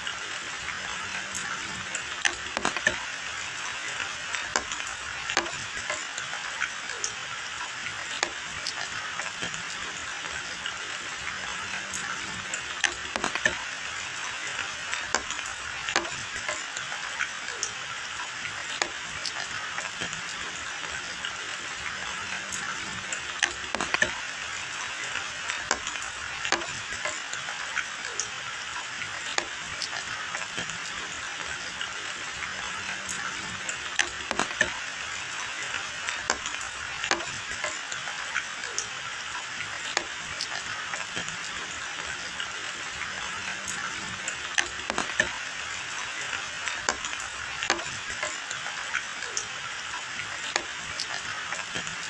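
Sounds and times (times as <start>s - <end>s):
raindrop impacts: 0.0s - 38.9s, 39.6s - 48.6s
steady rain hiss: 0.0s - 52.0s.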